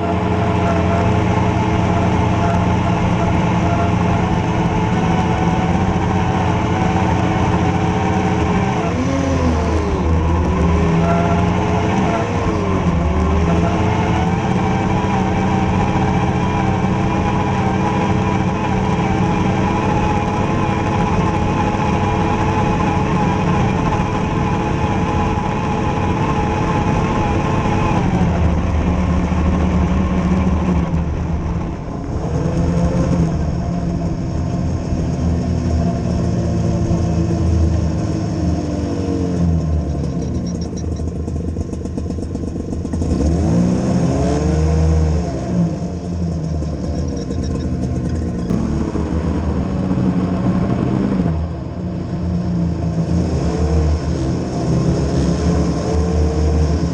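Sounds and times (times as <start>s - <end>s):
vehicle engine running under load: 0.0s - 56.9s.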